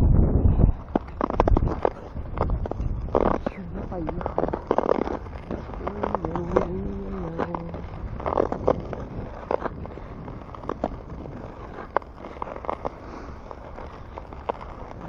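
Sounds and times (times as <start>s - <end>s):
wind rumbling on microphone: 0.0s - 15.0s
ice skates scraping on ice: 0.6s - 15.0s.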